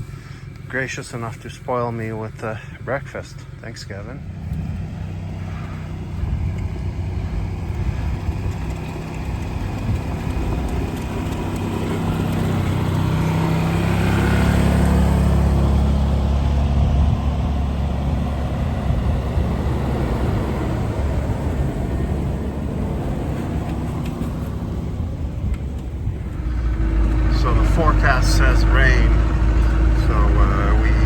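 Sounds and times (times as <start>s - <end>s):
road noise: 0.0s - 31.0s
vehicle engine running: 0.0s - 31.0s.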